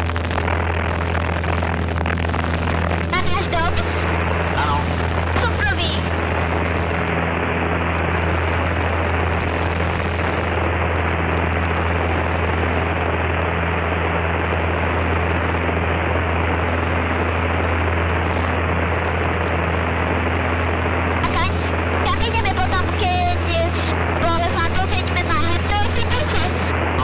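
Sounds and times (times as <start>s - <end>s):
light aircraft engine drone in cockpit: 0.0s - 27.0s.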